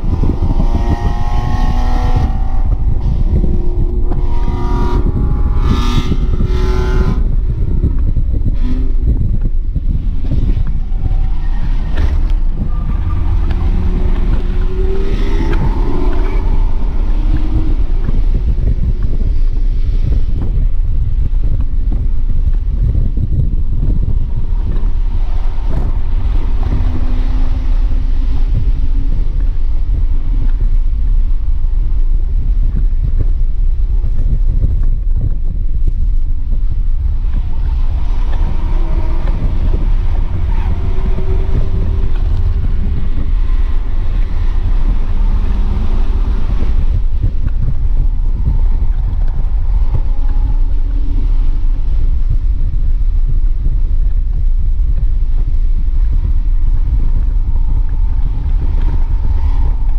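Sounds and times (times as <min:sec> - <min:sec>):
car engine revving: 0:00.0 - 0:21.8, 0:22.4 - 0:31.7, 0:36.3 - 0:59.9
wind and road rumble: 0:00.0 - 0:59.9.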